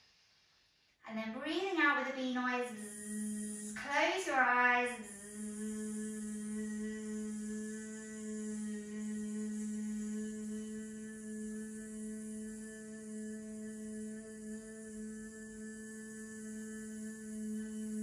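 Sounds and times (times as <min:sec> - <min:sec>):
woman humming a steady note: 0:01.2 - 0:18.0.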